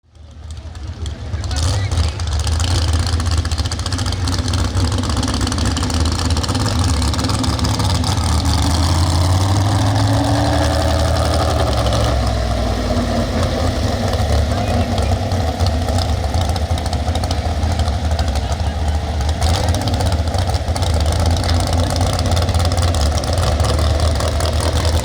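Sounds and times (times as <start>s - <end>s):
truck engine running loudly: 0.0s - 25.0s.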